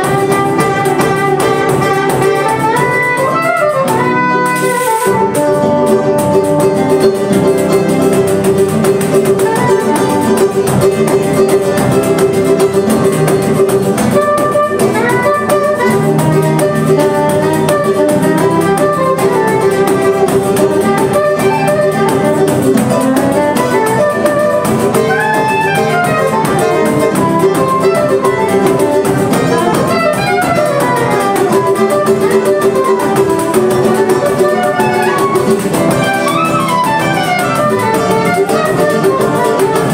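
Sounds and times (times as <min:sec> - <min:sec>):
soprano saxophone melody: 0:00.0 - 0:07.8, 0:09.3 - 0:11.1, 0:14.0 - 0:39.9
acoustic guitar: 0:00.0 - 0:39.9
cavaquinho: 0:00.0 - 0:39.9
pandeiro: 0:00.0 - 0:39.9.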